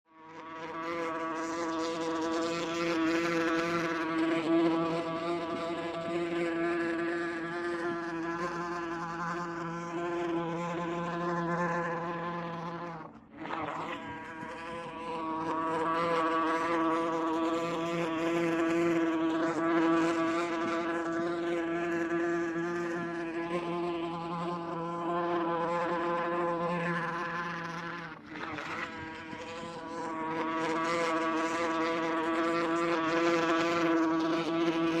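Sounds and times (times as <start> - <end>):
wasp buzzing in flight: 0.1 - 35.0.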